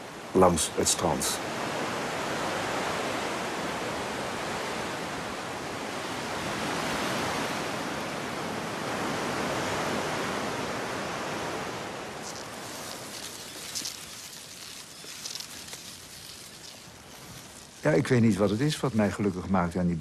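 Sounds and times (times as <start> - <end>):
sea surf washing: 0.0 - 20.0.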